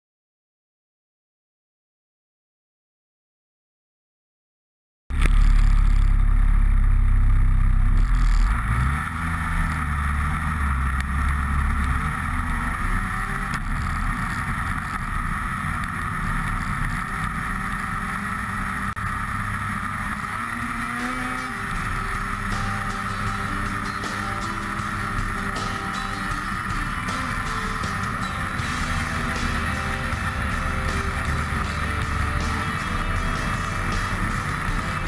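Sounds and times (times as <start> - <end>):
snowmobile engine rumbling: 5.1 - 35.0.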